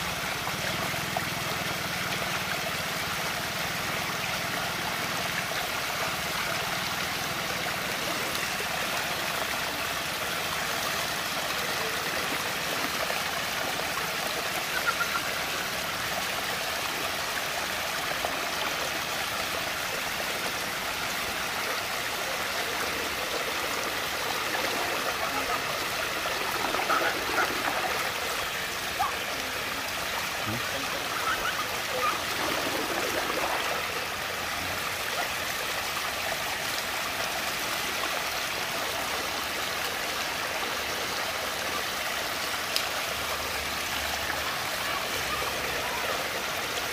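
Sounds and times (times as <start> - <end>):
water rushing down whirlpool: 0.0 - 46.9.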